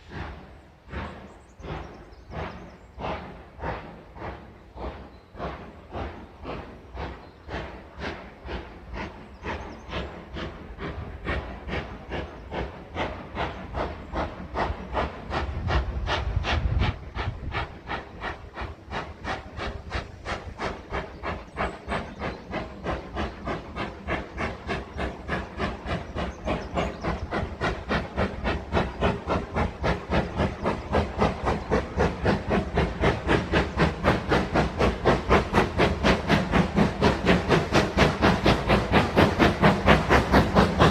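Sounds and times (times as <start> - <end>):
steam locomotive exhaust chuffing: 0.0 - 40.9.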